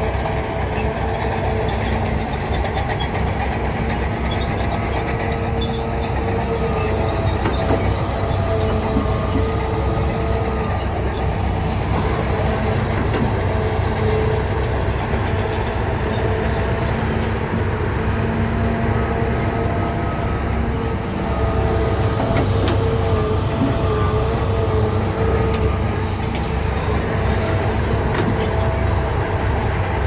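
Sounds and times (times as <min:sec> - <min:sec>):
bulldozer diesel engine rumbling: 0:00.0 - 0:30.0
steel tracks squealing and clanking: 0:00.0 - 0:30.0.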